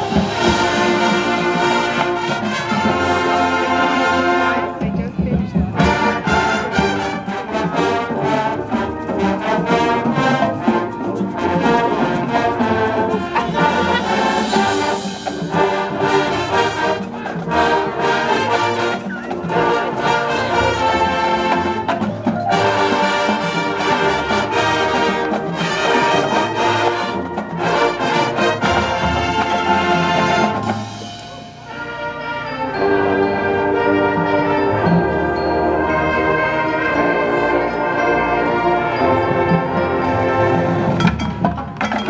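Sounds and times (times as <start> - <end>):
marching band brass playing: 0.0 - 42.0.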